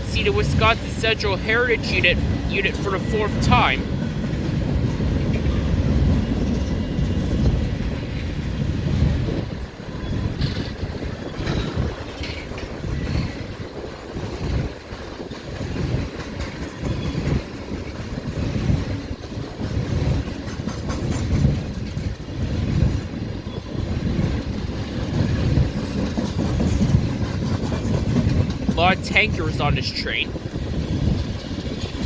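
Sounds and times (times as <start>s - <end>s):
freight train rolling past: 0.0s - 32.0s
wheels clacking over rail joints: 3.8s - 29.1s, 30.3s - 32.0s.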